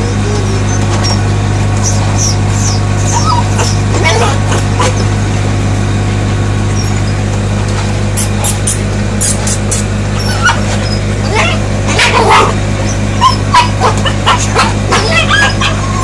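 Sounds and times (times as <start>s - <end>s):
puppies whining and yipping: 0.0s - 5.2s, 6.7s - 7.4s, 8.2s - 16.0s
steady low hum: 0.0s - 16.0s.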